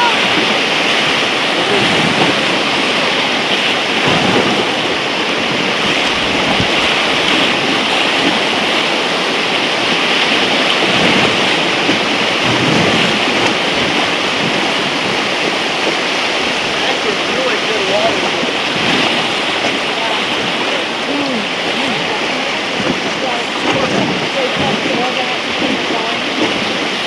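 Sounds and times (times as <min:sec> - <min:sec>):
whitewater rushing: 0:00.0 - 0:27.0.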